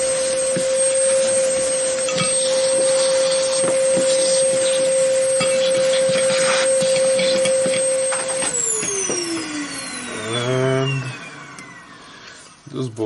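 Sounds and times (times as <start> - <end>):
electric motor whining down: 0.0 - 12.7.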